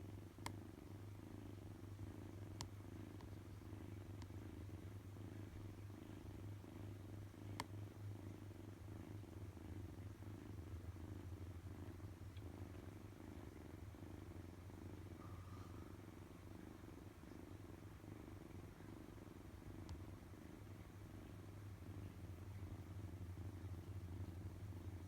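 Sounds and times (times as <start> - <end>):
kitten purring: 0.0 - 25.0.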